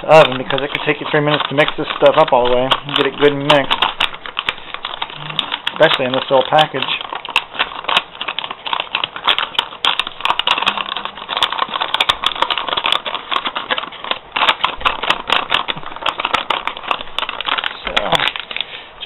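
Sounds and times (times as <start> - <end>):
sharp clicks: 0.0 - 18.7
paper pouch crinkling: 0.0 - 18.8.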